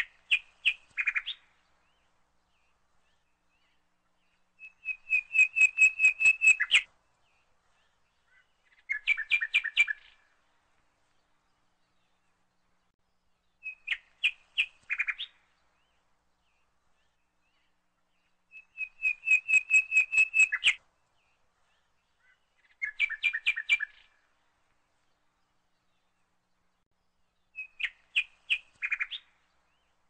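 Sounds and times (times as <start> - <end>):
bird chirping: 0.0 - 24.3, 25.0 - 30.0.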